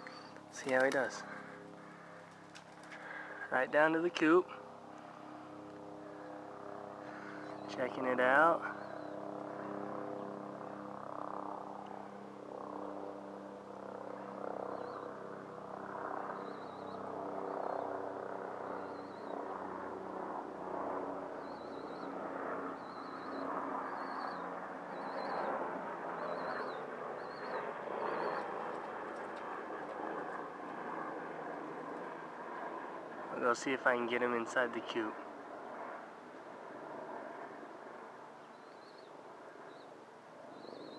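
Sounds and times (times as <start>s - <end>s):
wind or distant traffic: 0.0s - 40.9s.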